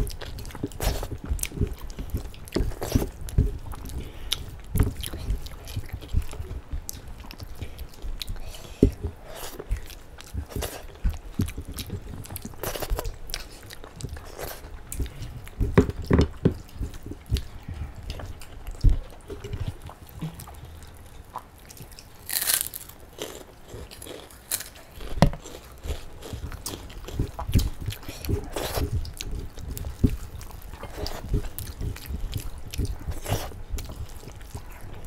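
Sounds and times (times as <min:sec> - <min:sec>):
wet chewing and mouth sounds: 0:00.0 - 0:35.0.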